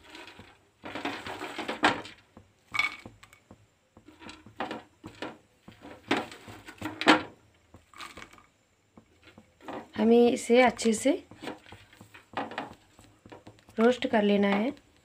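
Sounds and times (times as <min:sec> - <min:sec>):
nuts rattling in metal pan: 0:00.0 - 0:03.4, 0:04.1 - 0:08.5, 0:09.2 - 0:14.8.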